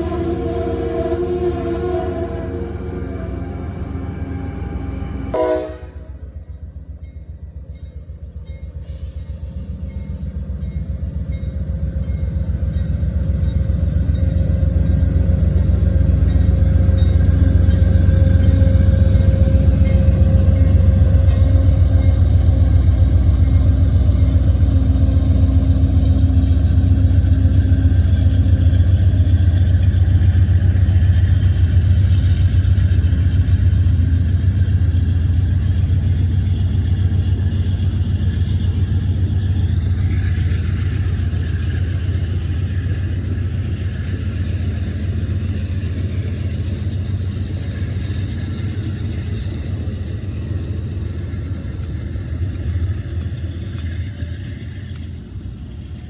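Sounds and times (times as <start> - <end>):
locomotive engines rumbling: 0.0 - 56.0.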